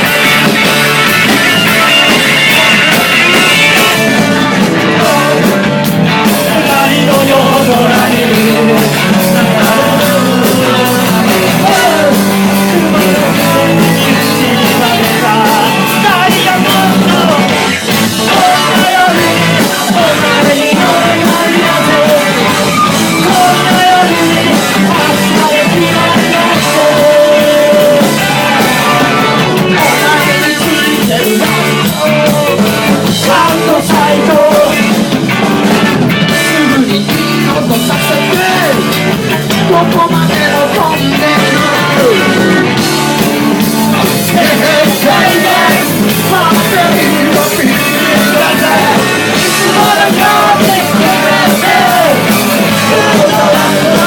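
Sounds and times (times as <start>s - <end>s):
person singing: 0.0s - 35.1s, 36.3s - 54.0s
bass guitar: 0.0s - 54.0s
drums: 0.0s - 54.0s
electric guitar: 0.0s - 54.0s.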